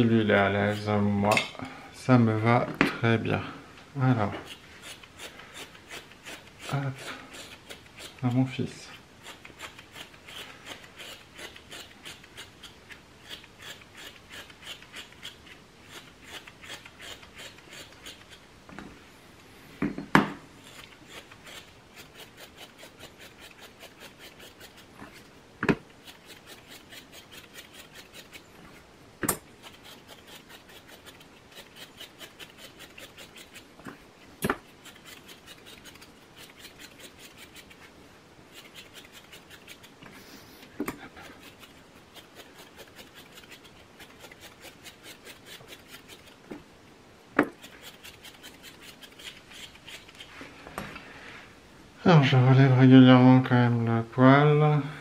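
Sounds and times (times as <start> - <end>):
stripping knife scratching dog hair: 0.0 - 1.1, 4.2 - 18.5, 20.6 - 46.6, 47.4 - 50.5.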